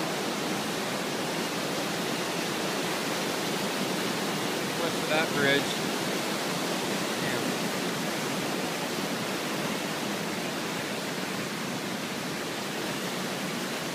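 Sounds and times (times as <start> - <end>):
floodwater rushing through debris: 0.0 - 13.9.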